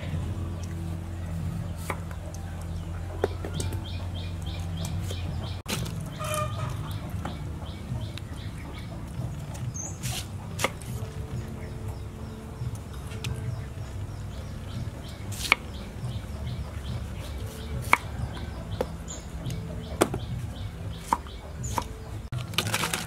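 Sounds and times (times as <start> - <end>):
steady low hum: 0.0 - 22.6
birds chirping: 0.0 - 23.0.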